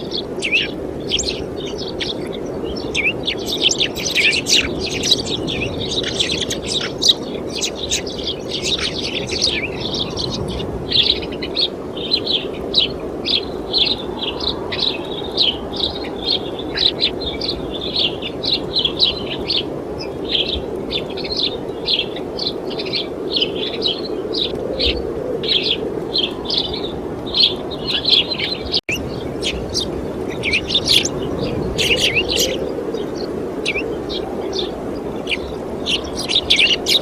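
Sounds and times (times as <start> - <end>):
small birds chirping: 0.0 - 37.0
wind rushing: 0.0 - 37.0.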